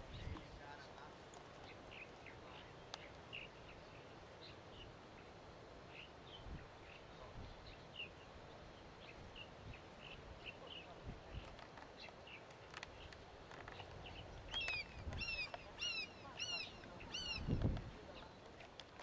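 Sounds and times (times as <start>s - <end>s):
low outdoor background noise: 0.0s - 19.0s
faint bird chirps: 1.6s - 18.4s.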